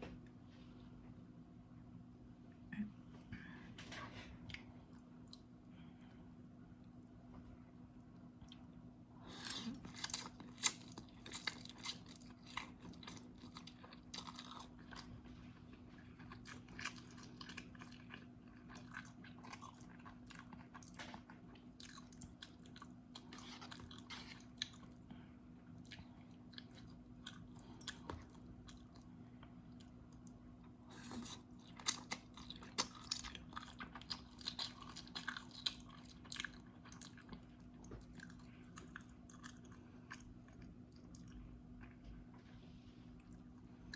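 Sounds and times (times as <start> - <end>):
faint low hum: 0.0 - 43.9.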